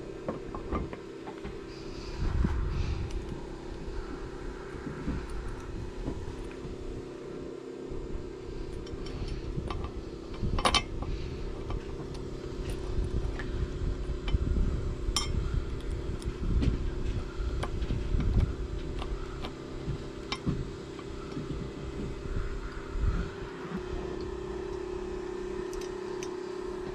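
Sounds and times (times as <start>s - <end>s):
low rumble: 0.0s - 26.9s
steady hum: 0.0s - 26.9s.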